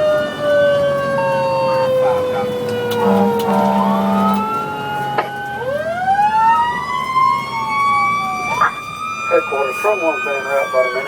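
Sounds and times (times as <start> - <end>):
fire engine sirens wailing: 0.0 - 11.0
truck engine running: 0.0 - 11.0.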